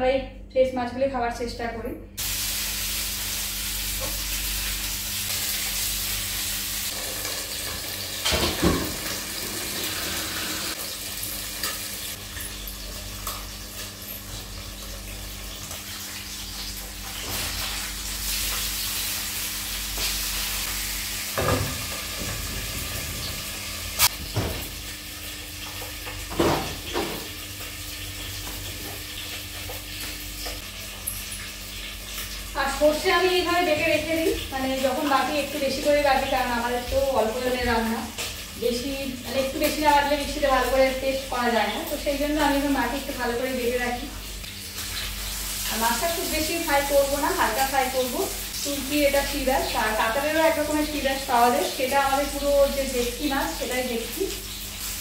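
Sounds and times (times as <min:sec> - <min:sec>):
fish sizzling in oil: 0:02.2 - 0:55.0.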